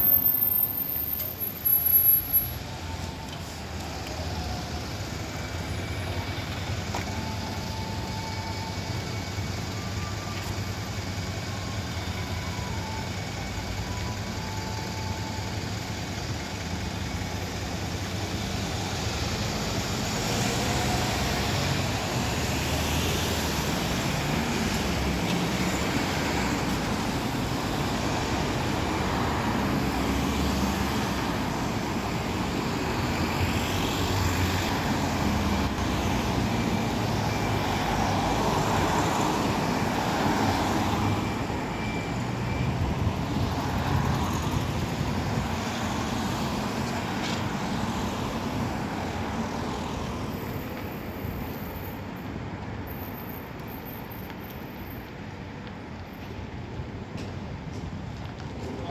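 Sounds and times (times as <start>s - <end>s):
passing cars: 0.0s - 13.0s, 15.3s - 58.9s
bus engines droning: 0.0s - 58.9s
road noise: 0.0s - 58.9s.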